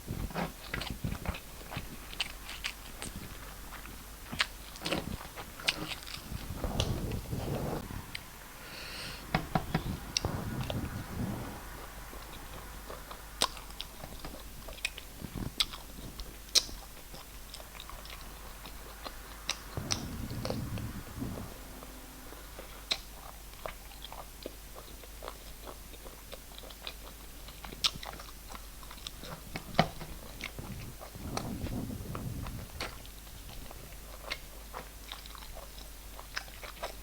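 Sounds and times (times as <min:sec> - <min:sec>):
person chewing food: 0:00.1 - 0:37.0.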